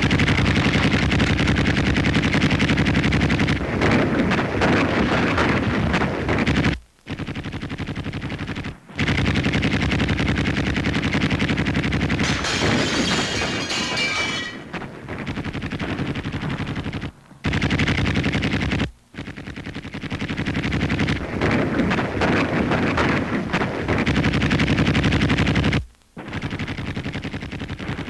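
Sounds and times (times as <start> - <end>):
machine-gun fire: 0.0 - 28.0.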